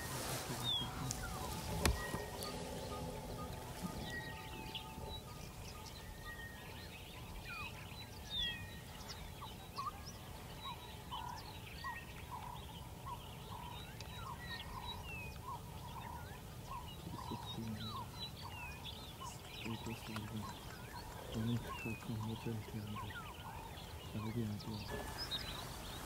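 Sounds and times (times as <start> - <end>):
birds chirping and whistling: 0.0 - 26.0
low background rumble: 0.0 - 26.0.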